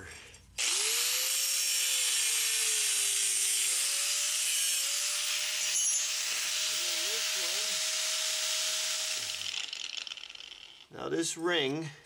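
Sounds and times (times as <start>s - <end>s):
angle grinder cutting steel: 0.6s - 10.9s.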